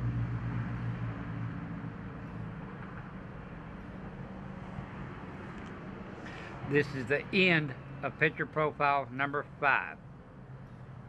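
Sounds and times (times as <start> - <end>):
low vehicle engine hum: 0.0 - 11.0
outdoor background noise: 0.0 - 11.0.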